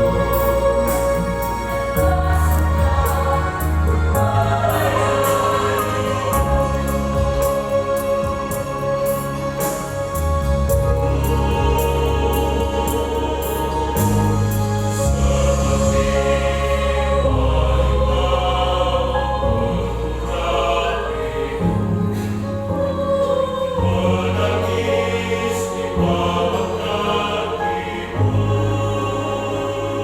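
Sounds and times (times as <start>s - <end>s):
church choir singing: 0.0s - 30.0s
low sustained accompaniment chords: 0.0s - 30.0s.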